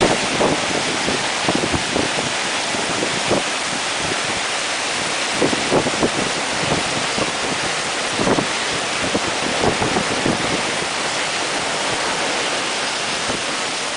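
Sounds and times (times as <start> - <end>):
wind and heavy rain: 0.0 - 13.9
wind gusts buffeting microphone: 0.0 - 13.9.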